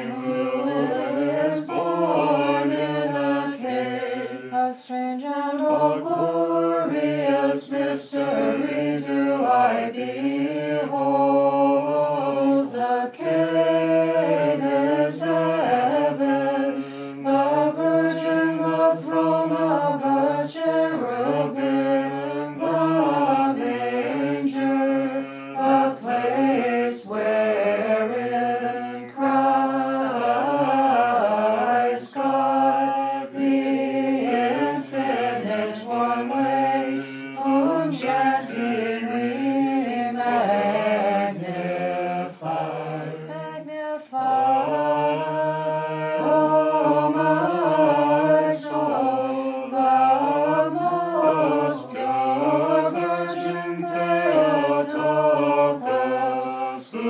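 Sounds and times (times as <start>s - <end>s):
unaccompanied voices singing: 0.0s - 57.0s.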